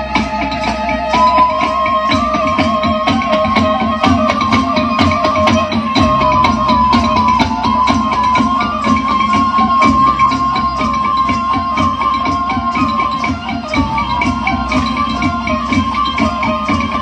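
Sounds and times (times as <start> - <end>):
high melody line: 0.0 - 17.0
rapid percussion strokes: 0.0 - 17.0.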